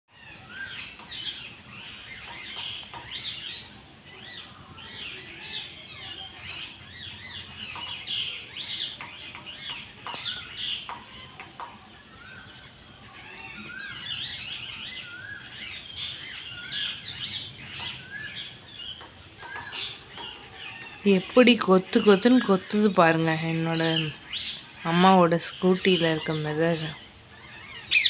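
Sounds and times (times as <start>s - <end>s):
sparrows chirping: 0.1s - 28.0s.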